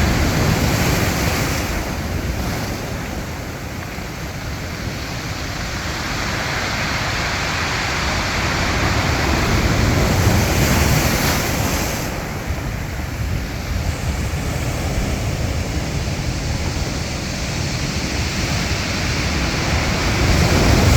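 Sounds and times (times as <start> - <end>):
sea waves breaking: 0.0 - 20.9
wind rumbling on microphone: 0.0 - 20.9.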